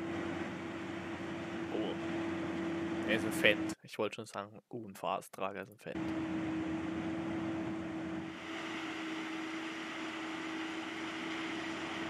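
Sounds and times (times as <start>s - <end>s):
tractor diesel engine running: 0.0s - 3.7s, 6.0s - 12.0s.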